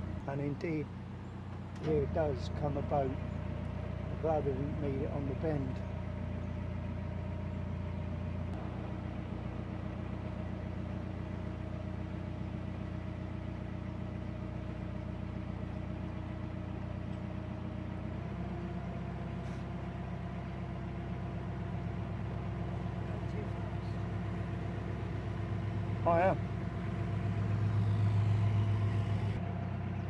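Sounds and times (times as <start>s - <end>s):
diesel boat engine throbbing: 0.0s - 30.0s.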